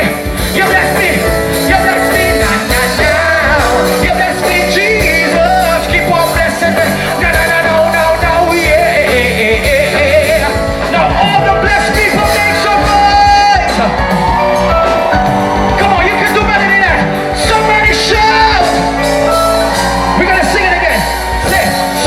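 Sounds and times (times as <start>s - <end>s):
lead voice singing: 0.0s - 22.0s
live band playing gospel: 0.0s - 22.0s.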